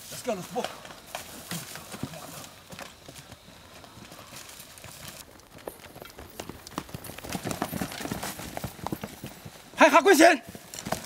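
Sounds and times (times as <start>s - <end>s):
footsteps running on dirt: 0.0s - 11.0s.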